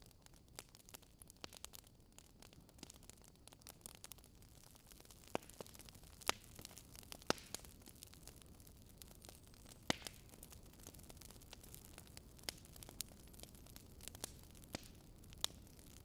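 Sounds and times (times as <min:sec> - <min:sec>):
campfire crackling: 0:00.0 - 0:16.0
faint steady hiss: 0:00.0 - 0:16.0.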